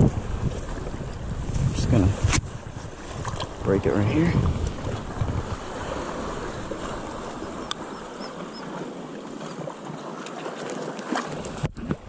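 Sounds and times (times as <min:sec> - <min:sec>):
shallow surf: 0:00.0 - 0:12.0
wind: 0:00.0 - 0:12.0.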